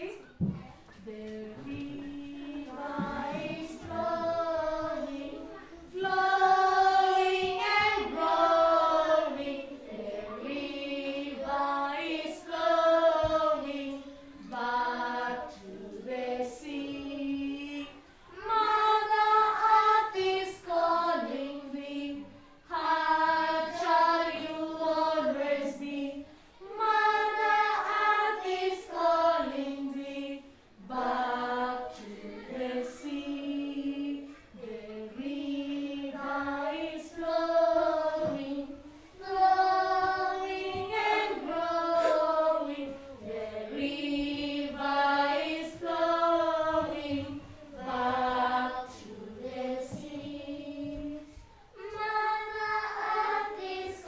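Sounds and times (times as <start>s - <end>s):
children singing unaccompanied: 0.0s - 54.0s.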